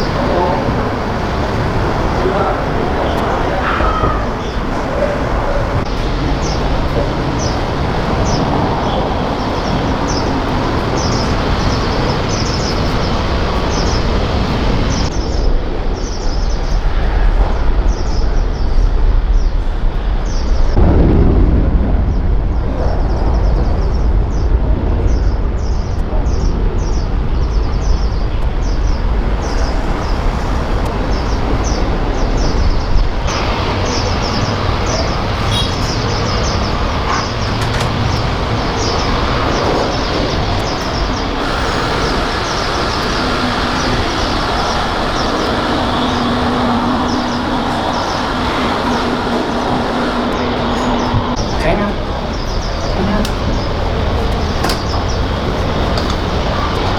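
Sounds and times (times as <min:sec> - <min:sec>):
jet aircraft passing: 0:00.0 - 0:56.9.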